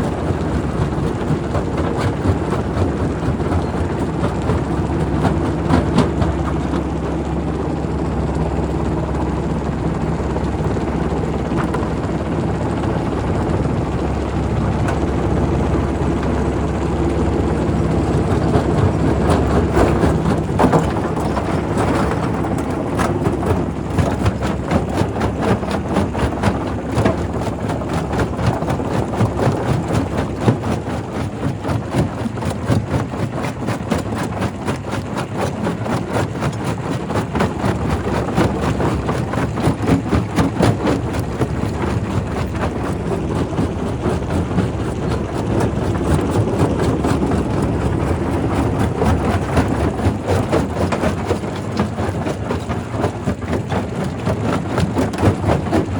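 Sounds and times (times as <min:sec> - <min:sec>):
rock crusher rumbling: 0:00.0 - 0:55.9.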